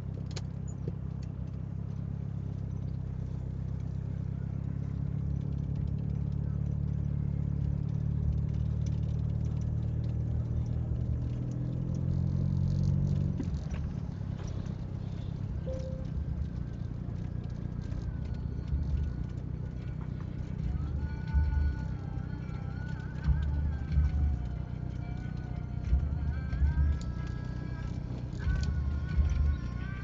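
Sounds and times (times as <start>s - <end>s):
light rattles and clicks in cabin: 0.0s - 12.1s, 13.2s - 30.0s
car engine humming: 0.0s - 30.0s.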